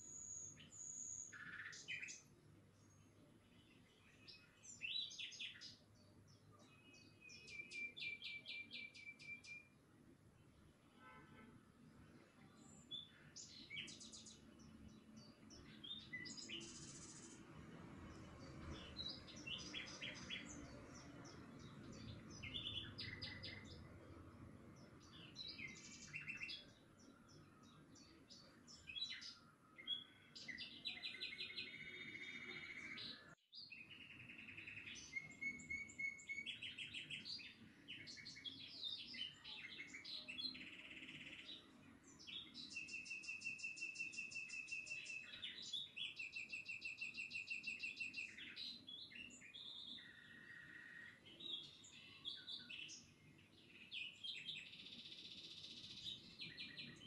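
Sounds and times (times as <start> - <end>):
small birds chirping: 0.0 - 10.8, 11.8 - 57.0.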